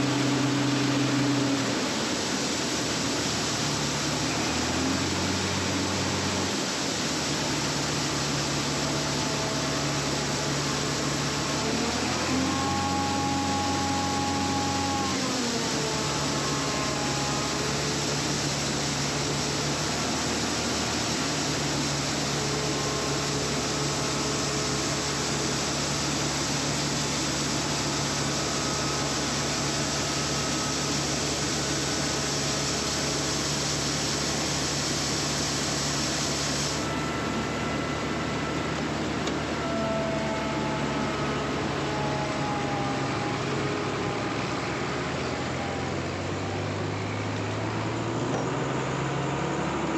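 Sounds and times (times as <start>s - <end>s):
farm machinery running: 0.0s - 49.9s.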